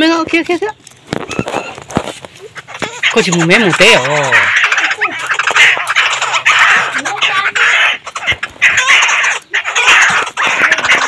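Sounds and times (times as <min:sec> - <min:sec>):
bird chattering calls: 0:00.0 - 0:11.0.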